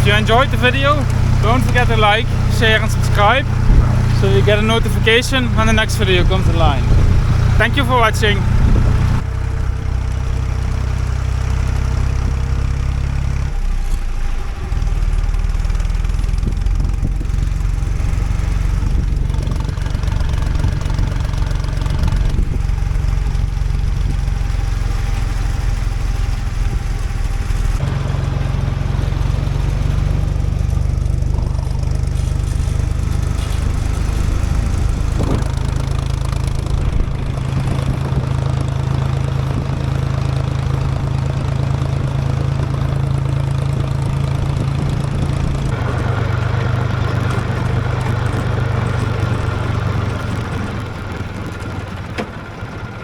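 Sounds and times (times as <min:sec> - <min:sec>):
farm vehicle engine running: 0:00.0 - 0:53.0.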